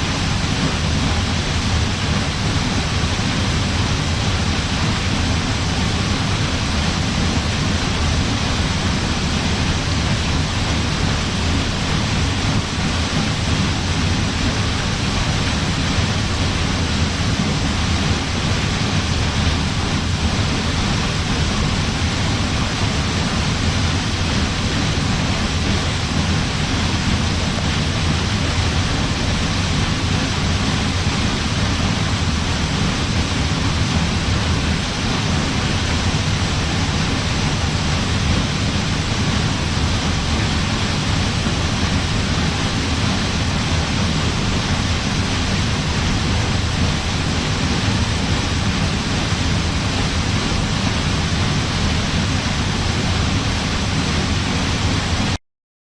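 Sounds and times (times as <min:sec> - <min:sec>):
waterfall rushing: 0:00.0 - 0:55.4.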